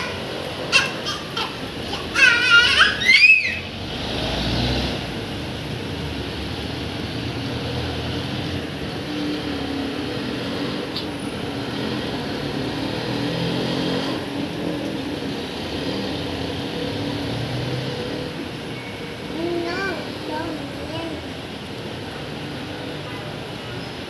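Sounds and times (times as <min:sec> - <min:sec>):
vehicle engine humming: 0:00.0 - 0:22.8.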